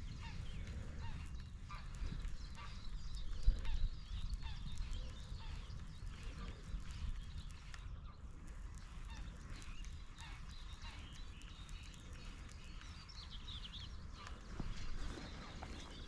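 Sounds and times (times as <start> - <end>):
birds calling: 0.0 - 16.0
steady low rumble: 0.0 - 16.0.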